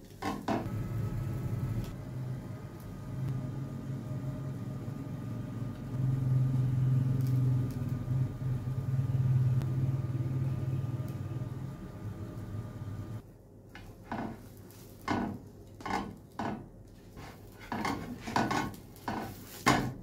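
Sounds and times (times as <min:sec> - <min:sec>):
low mechanical hum: 0:00.2 - 0:20.0.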